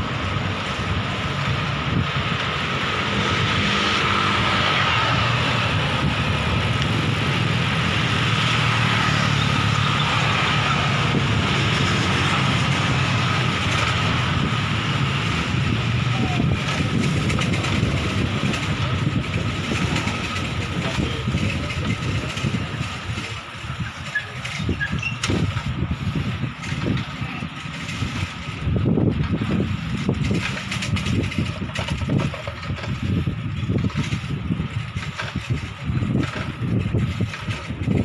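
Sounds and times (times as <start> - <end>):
bicycle tyres rattling over paving: 0.0 - 38.0
road noise: 0.0 - 38.0
wind buffeting microphone: 0.0 - 38.0.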